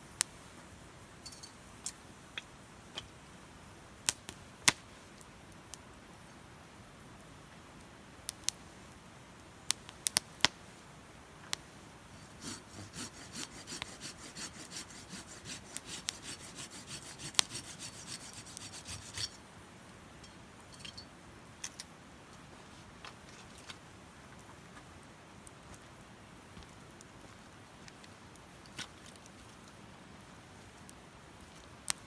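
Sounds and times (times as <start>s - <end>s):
wood fire crackling: 3.9s - 6.2s, 7.3s - 32.0s.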